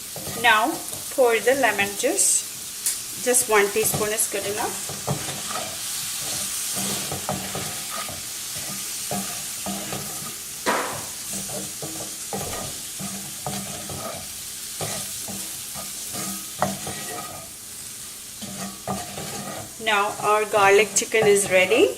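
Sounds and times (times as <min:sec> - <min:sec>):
utensil scraping pan: 0:00.0 - 0:01.1, 0:03.2 - 0:17.6, 0:18.4 - 0:21.9
shrimp sizzling in frying pan: 0:00.0 - 0:21.9.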